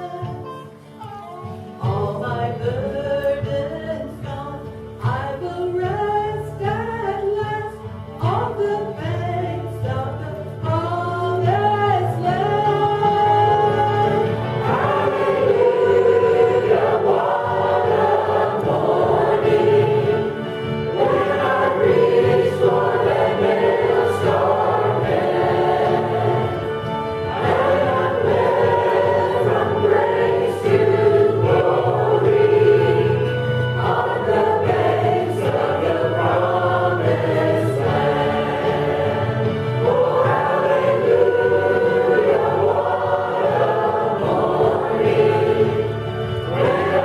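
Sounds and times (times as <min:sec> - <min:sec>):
low musical accompaniment: 0:00.0 - 0:47.0
choir singing a gospel hymn: 0:01.4 - 0:47.0.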